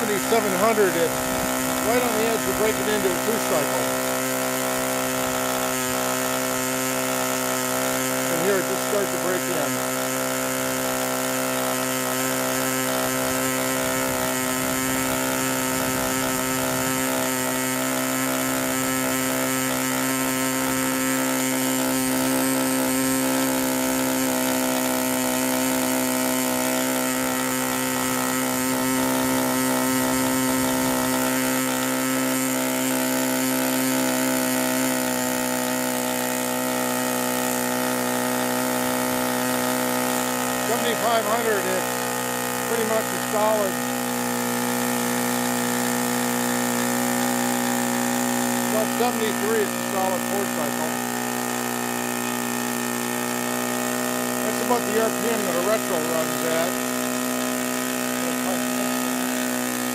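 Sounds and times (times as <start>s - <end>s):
model two-stroke engine running: 0.0s - 59.9s.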